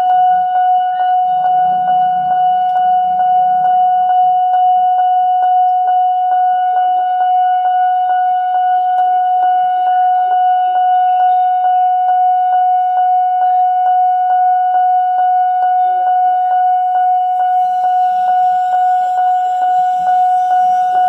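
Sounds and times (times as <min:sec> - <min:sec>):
level crossing alarm tone: 0:00.0 - 0:21.0.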